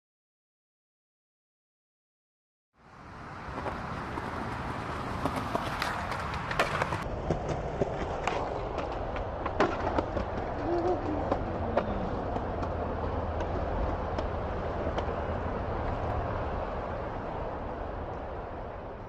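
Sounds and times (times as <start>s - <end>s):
skateboard wheels rolling: 2.8s - 19.0s
skateboard clacking on asphalt: 3.0s - 19.0s.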